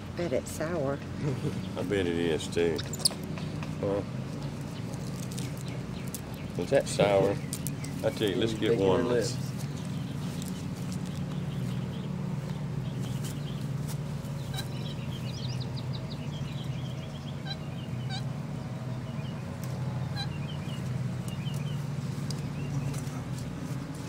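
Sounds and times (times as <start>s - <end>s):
small birds chirping: 0.0s - 24.0s
lawn mower engine running: 1.2s - 24.0s.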